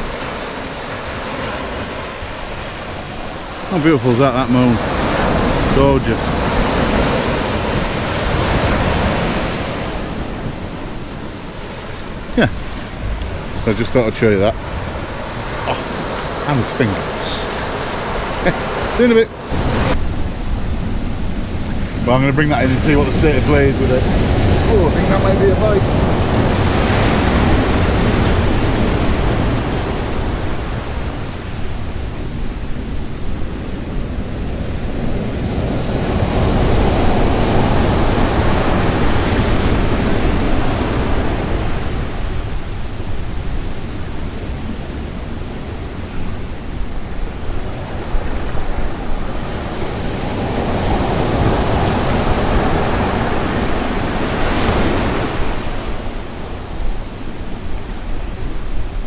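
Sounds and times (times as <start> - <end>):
surf washing onto beach: 0.0 - 59.0
wind buffeting microphone: 0.0 - 59.0.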